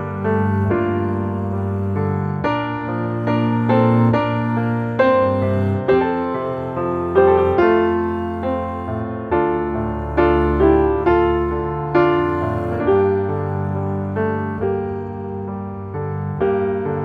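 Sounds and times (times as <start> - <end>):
gentle piano playing: 0.0 - 17.0.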